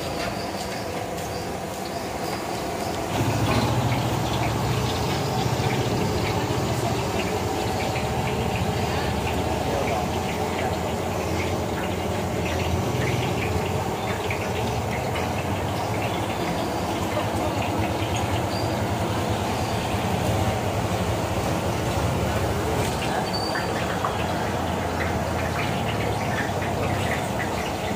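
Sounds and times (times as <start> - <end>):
gas burners running: 0.0 - 27.9
oil crackling from deep-frying: 0.0 - 27.9.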